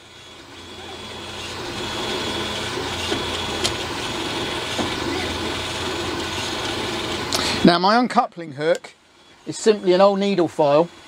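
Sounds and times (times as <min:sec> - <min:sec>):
model train motor humming: 0:00.0 - 0:08.0, 0:08.7 - 0:11.0.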